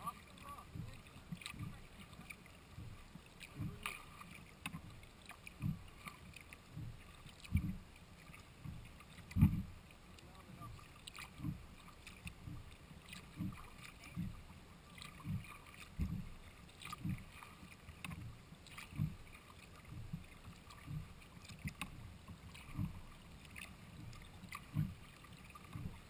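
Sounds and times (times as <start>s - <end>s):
paddle splashing water: 0.0s - 26.0s
paddle thuds through kayak hull: 0.0s - 26.0s.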